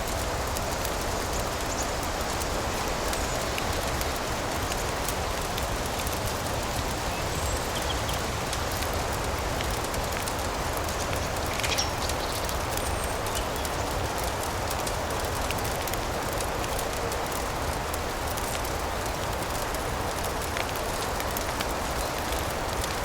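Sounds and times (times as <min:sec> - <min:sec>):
fireplace crackles: 0:00.0 - 0:23.0
rain hissing: 0:00.0 - 0:23.0.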